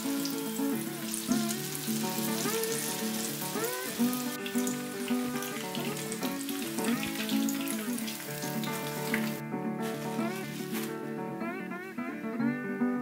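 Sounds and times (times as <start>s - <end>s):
oil sizzling and crackling: 0.0s - 11.1s
background music: 0.0s - 13.0s.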